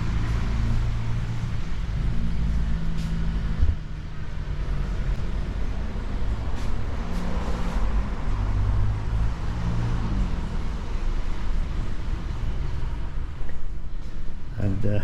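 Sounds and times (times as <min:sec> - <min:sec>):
vehicle engine: 0:00.0 - 0:14.5
road traffic rumble: 0:00.0 - 0:15.0.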